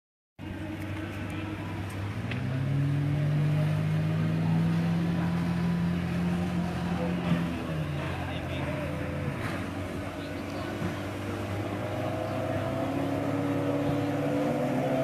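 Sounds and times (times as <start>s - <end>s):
engine running: 0.4s - 15.0s.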